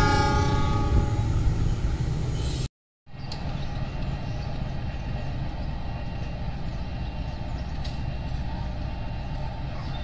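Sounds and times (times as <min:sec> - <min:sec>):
diesel locomotive engine rumbling: 0:00.0 - 0:10.0.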